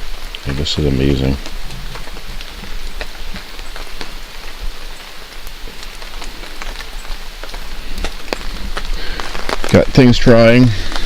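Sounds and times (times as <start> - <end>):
raindrops tapping: 0.0 - 11.0
steady rain hiss: 0.0 - 11.0.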